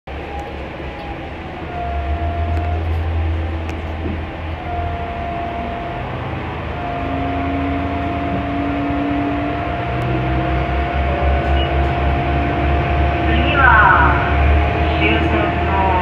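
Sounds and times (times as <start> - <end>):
railcar engine and wheels rumbling: 0.1 - 16.0
thin steady whine: 0.1 - 16.0.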